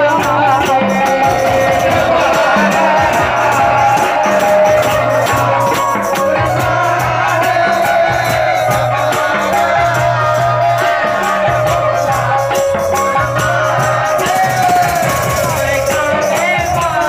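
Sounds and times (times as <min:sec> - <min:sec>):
devotional song over loudspeaker: 0:00.0 - 0:17.0
jingling hand percussion: 0:00.0 - 0:17.0.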